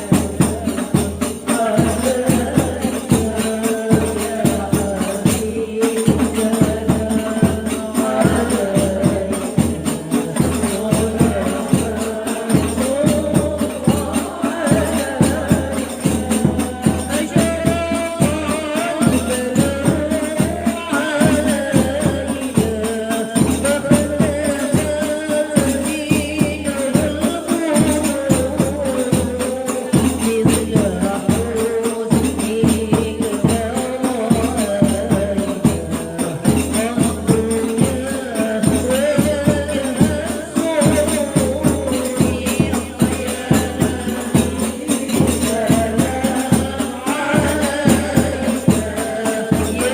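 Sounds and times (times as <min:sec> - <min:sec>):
frame drums beating: 0:00.0 - 0:49.9
jingling tambourine strokes: 0:00.0 - 0:49.9
women singing in unison: 0:00.0 - 0:49.9.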